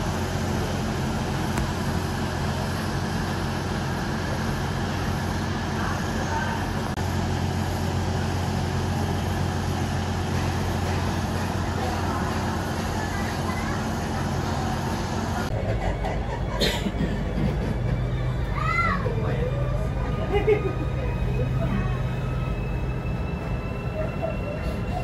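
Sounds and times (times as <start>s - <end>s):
moving vehicle running noise: 0.0s - 25.0s.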